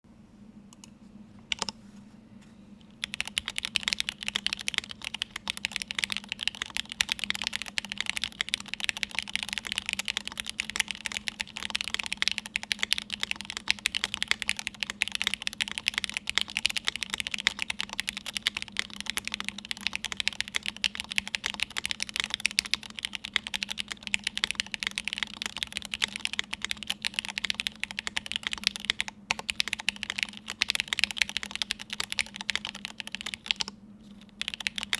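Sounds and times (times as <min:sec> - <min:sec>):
mechanical keyboard typing: 0:01.5 - 0:01.8, 0:02.9 - 0:34.9.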